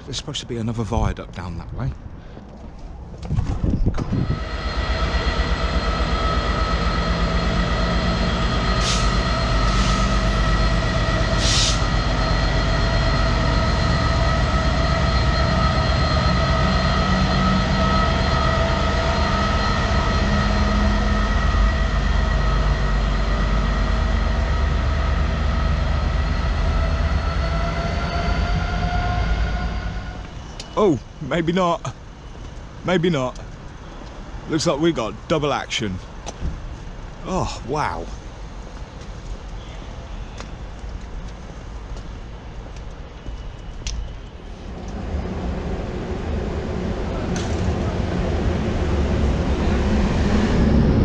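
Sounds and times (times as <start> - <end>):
freight train rumbling past: 4.0 - 51.0.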